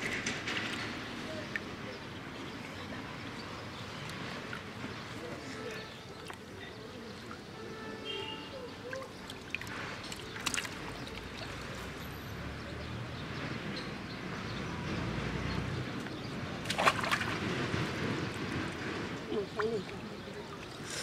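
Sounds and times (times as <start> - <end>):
water sloshing and splashing: 0.0 - 12.2, 15.6 - 21.0.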